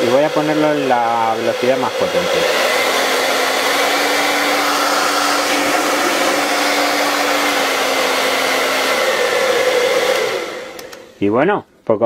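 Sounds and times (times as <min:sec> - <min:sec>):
hair dryer running: 0:00.0 - 0:11.2.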